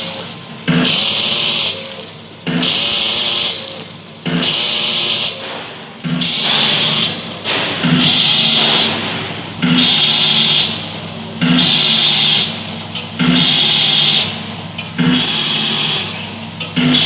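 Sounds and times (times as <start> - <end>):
machine hiss: 0.0 - 17.0
steady low hum: 0.0 - 17.0.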